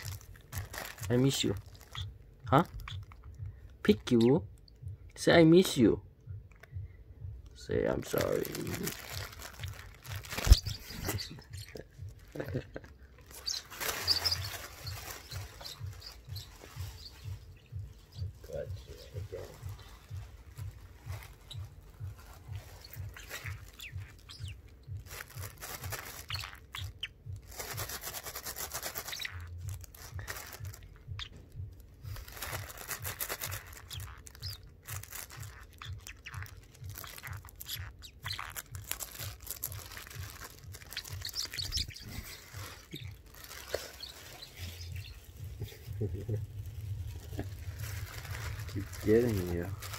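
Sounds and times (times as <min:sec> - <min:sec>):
plastic bag rustling: 0:00.0 - 0:03.3, 0:07.9 - 0:31.4, 0:32.0 - 0:49.9
parrot chirping: 0:00.0 - 0:04.8, 0:08.3 - 0:12.5, 0:13.2 - 0:49.9.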